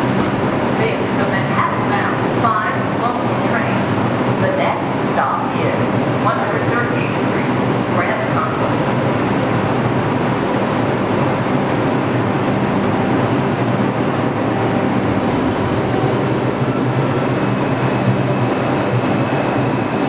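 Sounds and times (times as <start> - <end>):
subway train equipment humming: 0.0 - 20.0.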